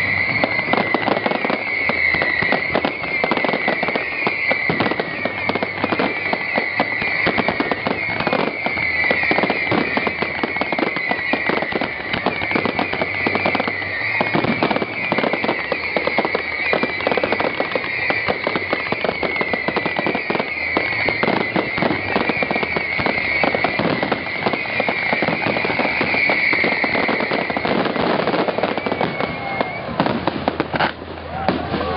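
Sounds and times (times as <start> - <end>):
fireworks bangs and crackles: 0.0 - 31.9
fireworks whistle: 0.0 - 31.9.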